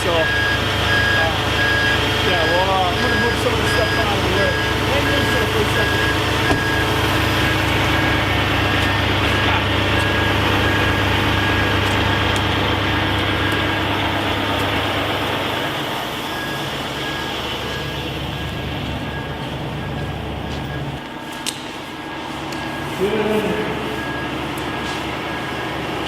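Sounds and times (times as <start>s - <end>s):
heavy vehicle engine running: 0.0s - 26.0s
reversing alarm beeping: 0.0s - 26.0s.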